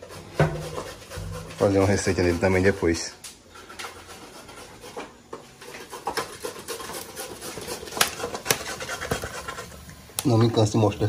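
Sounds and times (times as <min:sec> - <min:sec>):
firewood crackling in a stove: 0:00.0 - 0:11.0.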